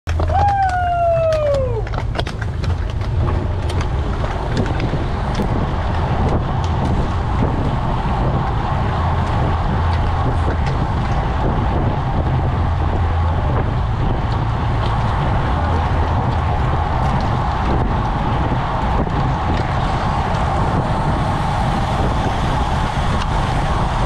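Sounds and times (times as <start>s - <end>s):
bike tyre and road noise: 0.0s - 24.0s
bike clicks: 0.1s - 21.6s
wind buffeting microphone: 0.1s - 24.0s.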